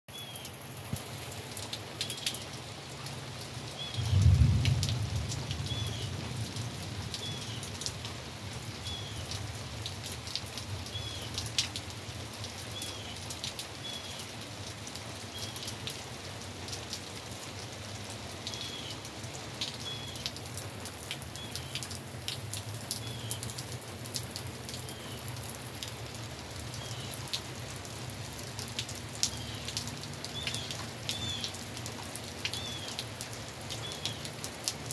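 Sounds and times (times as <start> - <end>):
rain on trees and lawn: 0.1 - 34.9
water drips ticking: 0.2 - 8.2, 8.8 - 34.9.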